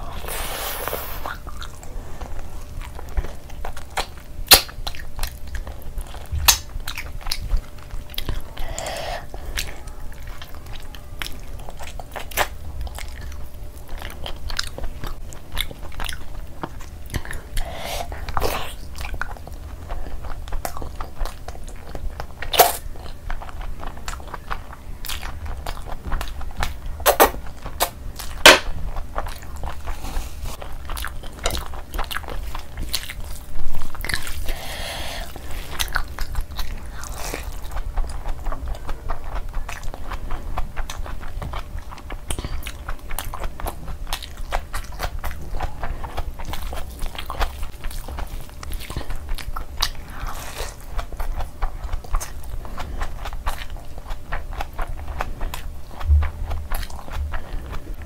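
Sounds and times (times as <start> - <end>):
wet chewing and lip smacking: 1.2 - 58.0.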